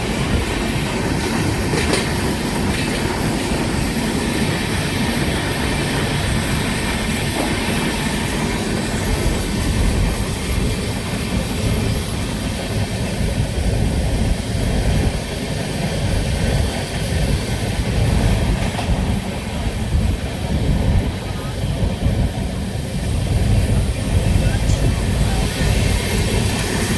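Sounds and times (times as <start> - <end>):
train rumbling along track: 0.0 - 26.9.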